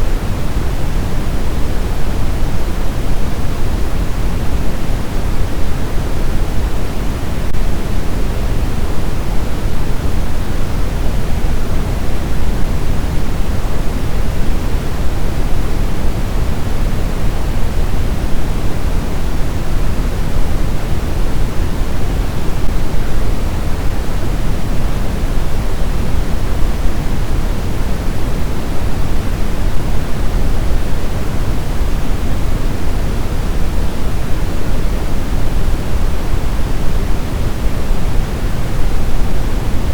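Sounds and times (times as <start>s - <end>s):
deep pink noise hiss: 0.0s - 39.9s.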